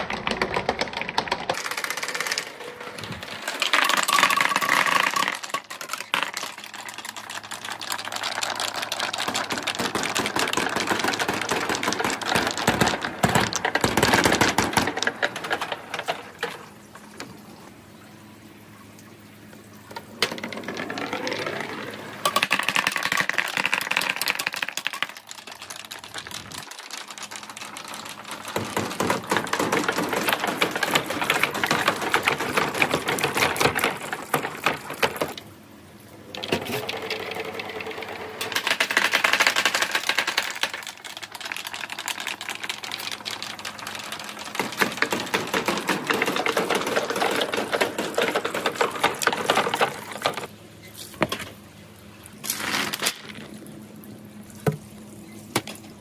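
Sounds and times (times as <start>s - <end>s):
balls clattering down marble run: 0.0s - 18.1s, 18.8s - 35.5s, 36.1s - 50.5s, 52.4s - 53.9s.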